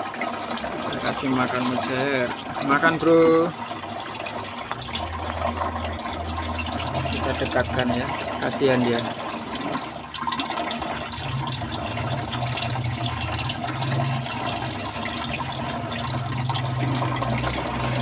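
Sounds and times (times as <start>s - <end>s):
water running steadily: 0.0s - 18.0s.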